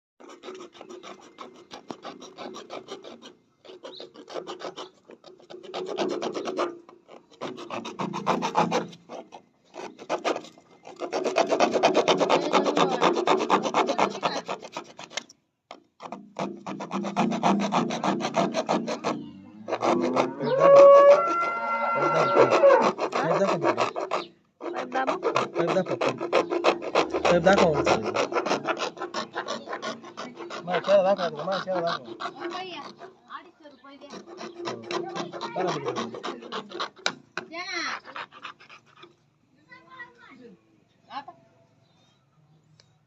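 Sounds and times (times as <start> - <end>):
rapid rasping scraping strokes: 0.2 - 40.2.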